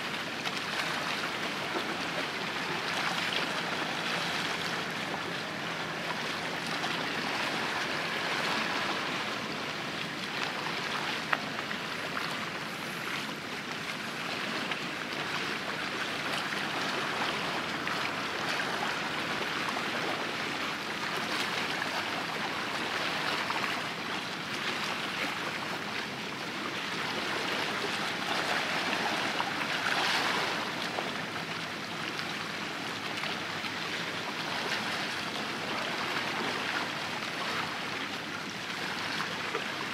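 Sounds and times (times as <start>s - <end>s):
sea water washing and splashing: 0.0s - 39.9s.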